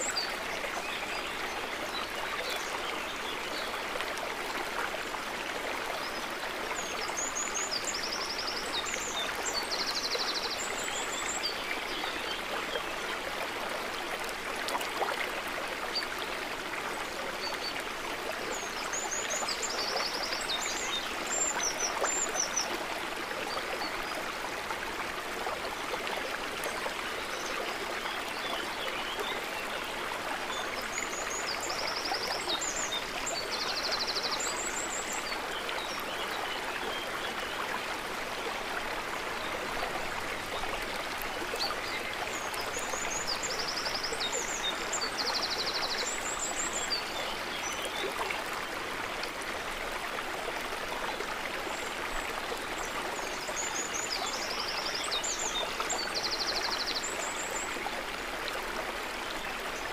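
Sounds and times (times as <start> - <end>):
water trickling and babbling: 0.0 - 59.9.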